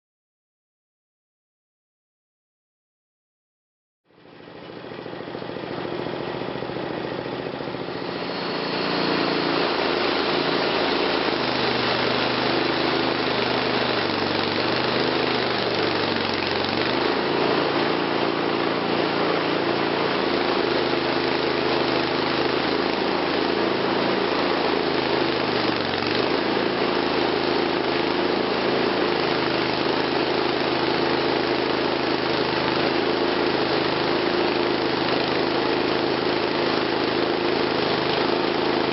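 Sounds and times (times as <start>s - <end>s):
sawmill engine running: 4.2s - 38.9s.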